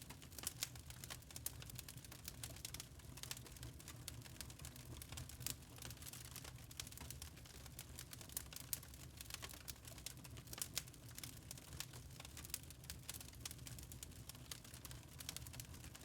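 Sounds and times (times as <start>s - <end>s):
log fire crackling: 0.0s - 16.0s.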